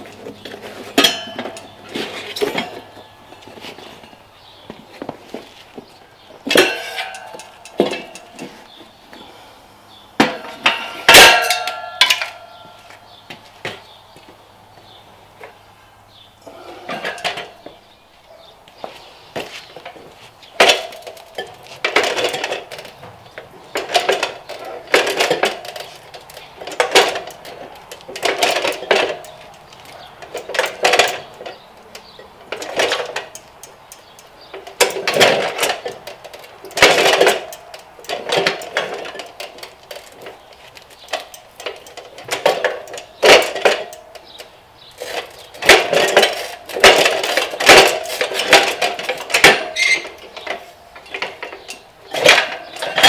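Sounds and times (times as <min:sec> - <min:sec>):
tire irons clanking on rim: 0:00.0 - 0:09.3, 0:09.9 - 0:53.0.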